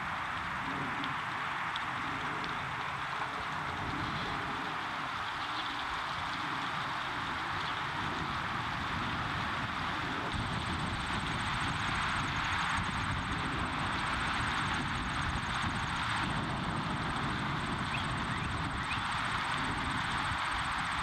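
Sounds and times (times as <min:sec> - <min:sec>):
rushing outdoor noise: 0:00.0 - 0:21.0.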